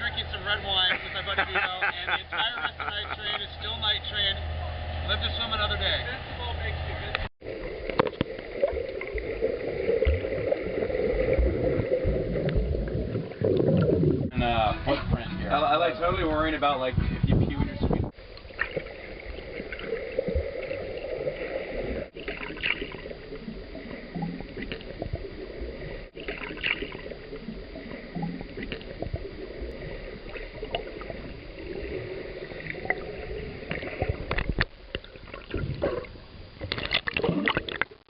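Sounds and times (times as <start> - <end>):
water sloshing around a boat: 0.0 - 38.0.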